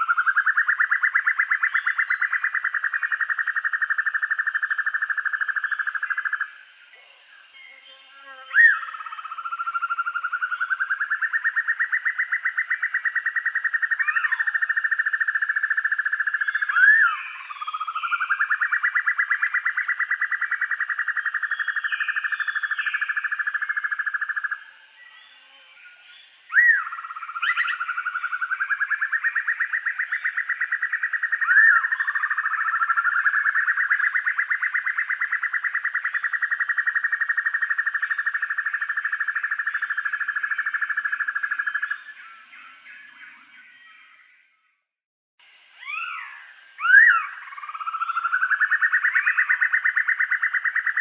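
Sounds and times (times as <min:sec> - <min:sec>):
bird calling in rapid trills: 0:00.0 - 0:06.6, 0:08.5 - 0:25.2, 0:26.4 - 0:44.2, 0:45.7 - 0:51.0.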